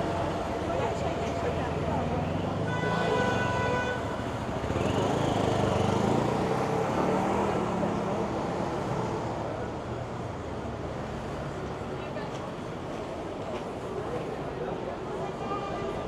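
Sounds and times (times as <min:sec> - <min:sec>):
busy street traffic: 0:00.0 - 0:16.0.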